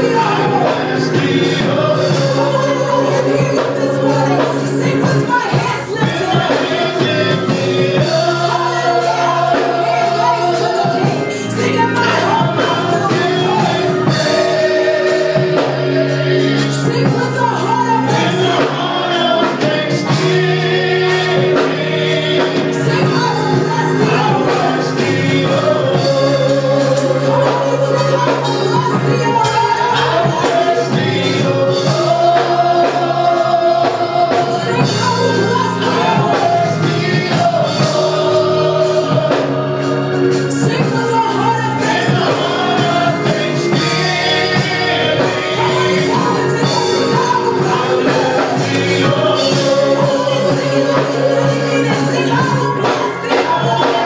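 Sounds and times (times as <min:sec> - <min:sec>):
gospel choir singing: 0:00.0 - 0:54.0
sustained low instrumental notes: 0:00.0 - 0:54.0.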